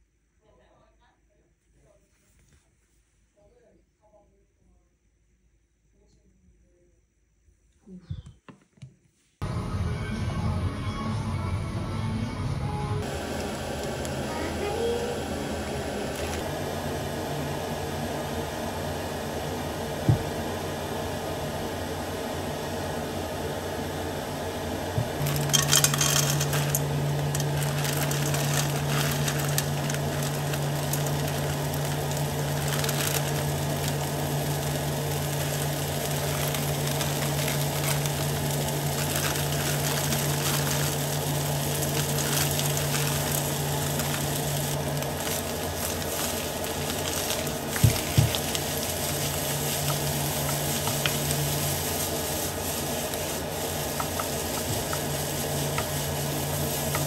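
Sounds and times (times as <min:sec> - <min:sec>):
electric appliance humming: 0:09.4 - 0:57.0.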